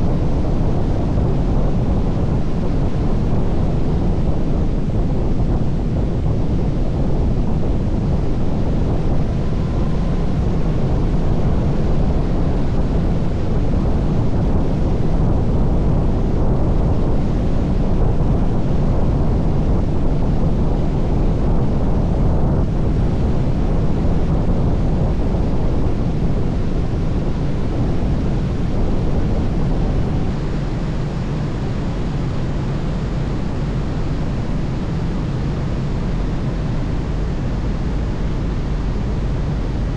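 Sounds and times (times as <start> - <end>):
deep wind rumble: 0.0 - 39.9.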